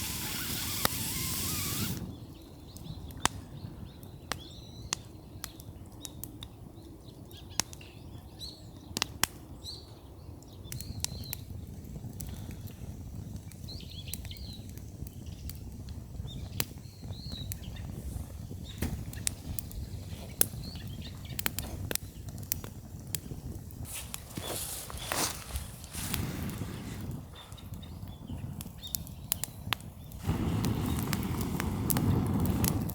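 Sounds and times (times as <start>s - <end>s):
bonfire crackling and popping: 0.0s - 32.9s.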